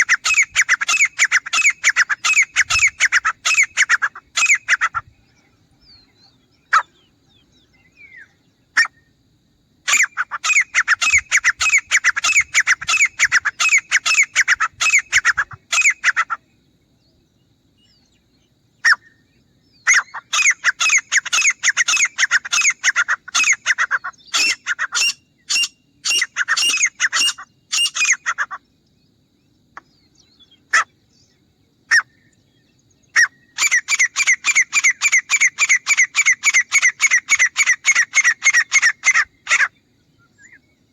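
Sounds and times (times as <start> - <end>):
francolin calling: 0.0 - 9.2, 9.8 - 40.9.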